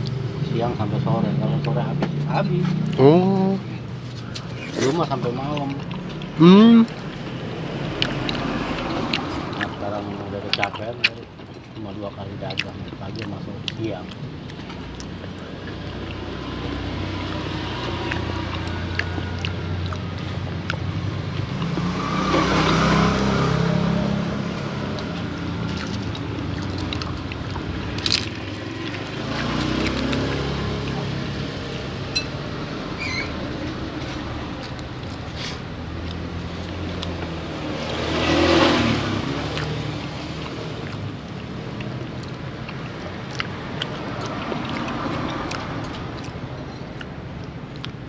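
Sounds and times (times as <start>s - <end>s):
traffic rumble: 0.0s - 48.0s
vehicles passing close by: 0.0s - 48.0s.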